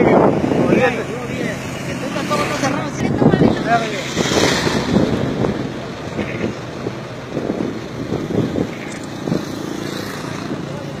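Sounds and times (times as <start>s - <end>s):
road noise: 0.0s - 11.0s
vehicle engine: 0.0s - 11.0s
wind buffeting microphone: 0.0s - 11.0s.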